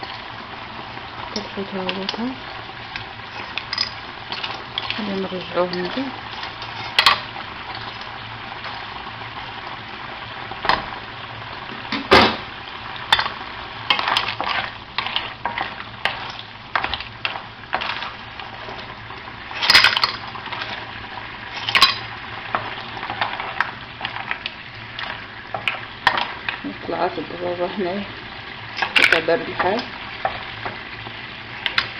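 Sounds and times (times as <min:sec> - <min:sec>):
seafood sizzling in oil: 0:00.0 - 0:31.9.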